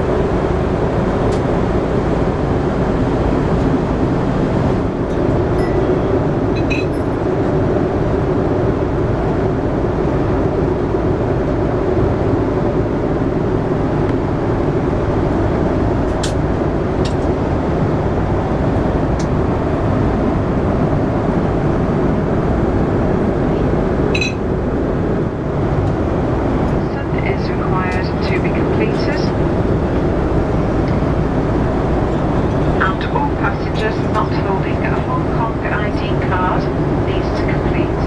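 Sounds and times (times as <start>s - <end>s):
airflow rush in aircraft cabin: 0.0s - 38.0s
jet engine drone: 0.0s - 38.0s.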